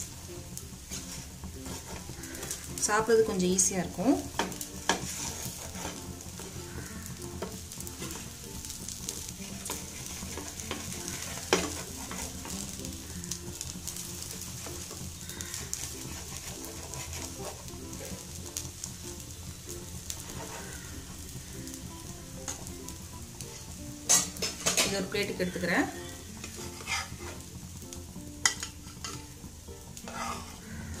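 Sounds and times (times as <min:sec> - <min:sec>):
oil sizzling in a pan: 0:00.0 - 0:31.0.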